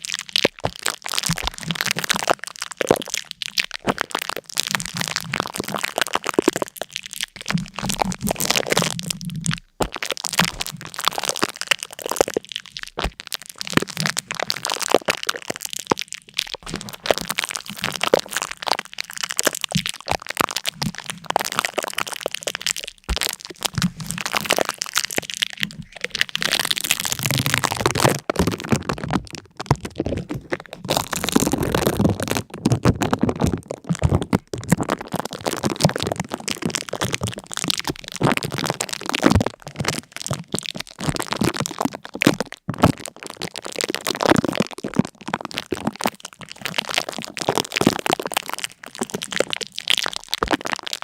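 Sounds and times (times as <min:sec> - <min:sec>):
dense crackling and crunching: 0:00.0 - 0:51.0.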